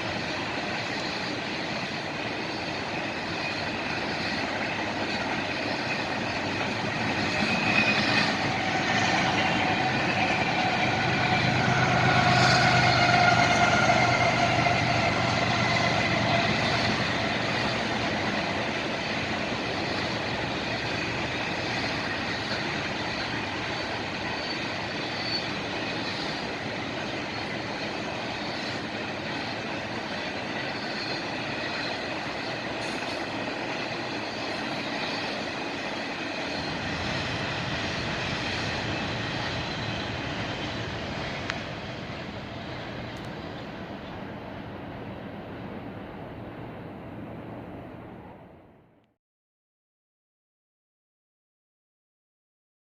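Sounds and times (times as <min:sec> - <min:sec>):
train squealing tones: 0:00.0 - 0:44.3
freight train rumble and clatter: 0:00.0 - 0:49.1.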